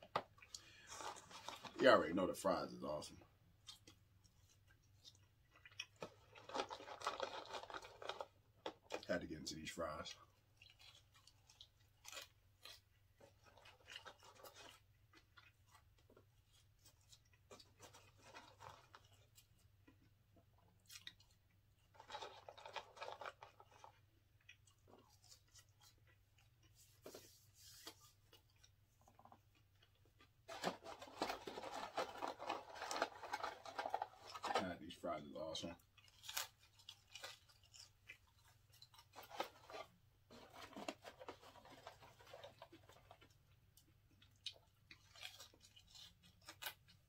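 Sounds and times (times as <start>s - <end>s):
chewing fries: 0.0s - 1.8s, 3.1s - 27.1s, 27.8s - 47.0s
mouth clicks and crunches: 3.6s - 9.2s, 10.2s - 26.8s, 28.3s - 47.0s.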